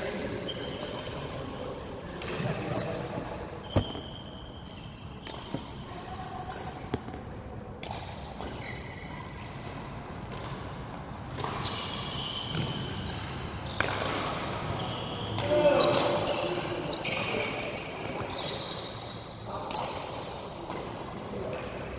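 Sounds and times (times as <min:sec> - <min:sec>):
court shoes squeaking: 0:00.0 - 0:21.9.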